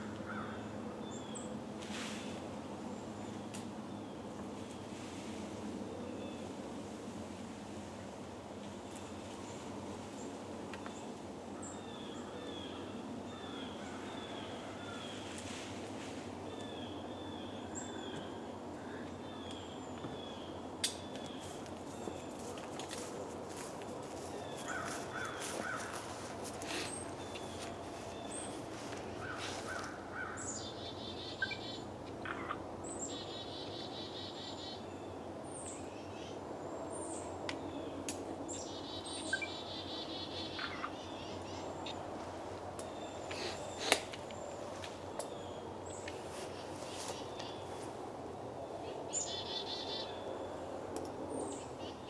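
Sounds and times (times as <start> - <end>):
songbirds singing: 0.0 - 1.6, 8.6 - 15.6, 16.2 - 52.0
steady background hum: 0.0 - 52.0.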